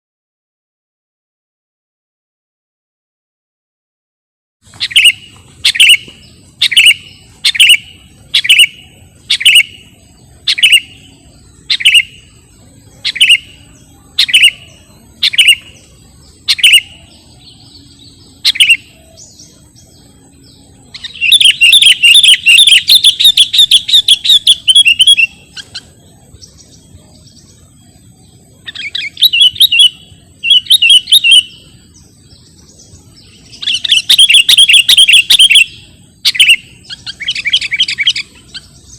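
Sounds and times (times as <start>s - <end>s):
bird calling and chattering: 4.7s - 38.9s.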